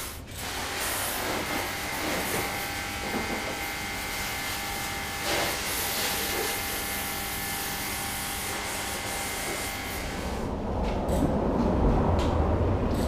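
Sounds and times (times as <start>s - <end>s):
pressure washer pump motor hum: 0.0s - 10.5s
water jet hissing on glass: 0.0s - 10.5s.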